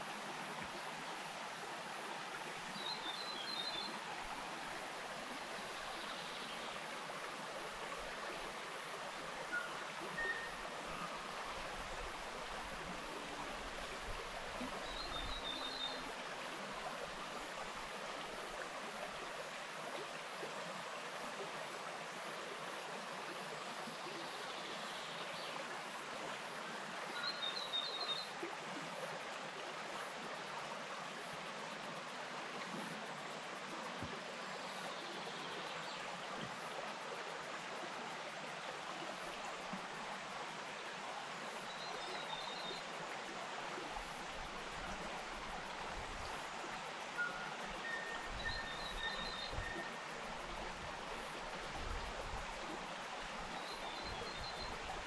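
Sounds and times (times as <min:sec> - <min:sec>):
stream running: 0:00.0 - 0:55.0.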